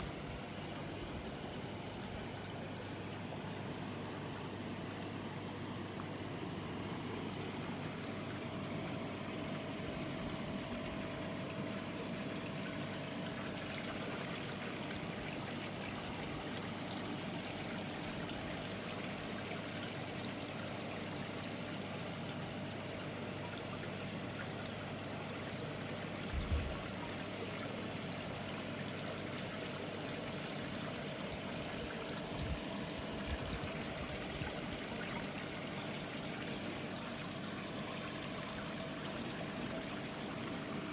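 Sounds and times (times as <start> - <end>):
faint steady hum: 0.0 - 40.9
water trickling into a pond: 0.0 - 40.9.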